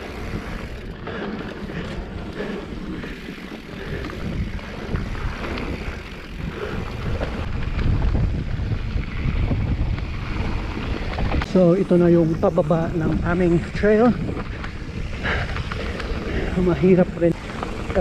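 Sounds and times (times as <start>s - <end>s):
bike rattling over bumps: 0.0s - 18.0s
bike tyres on loose dirt: 0.0s - 18.0s
wind buffeting microphone: 0.0s - 18.0s.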